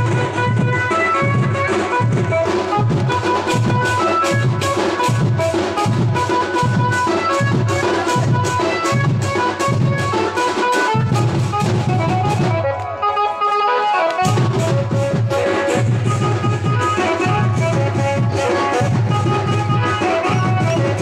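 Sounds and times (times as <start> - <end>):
steady drum beat: 0.0 - 12.7, 14.2 - 21.0.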